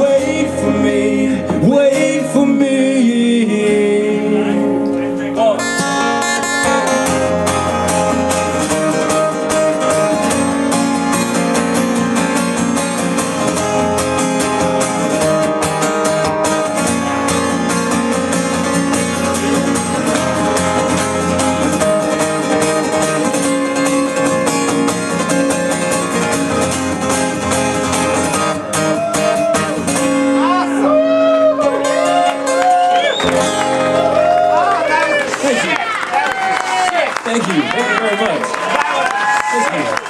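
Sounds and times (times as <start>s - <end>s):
strummed guitar: 0.0s - 36.0s
live band playing: 0.0s - 38.6s.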